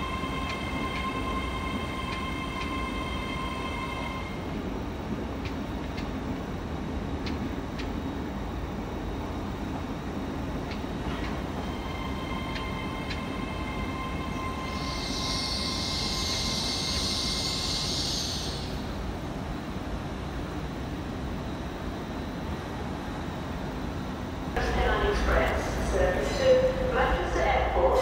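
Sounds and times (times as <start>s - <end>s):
train rumble: 0.0s - 28.0s.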